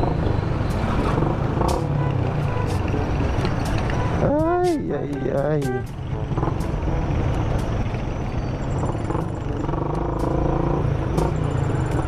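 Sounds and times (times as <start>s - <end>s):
motorcycle exhaust rumble: 0.0s - 12.0s
road and traffic noise: 0.0s - 12.0s.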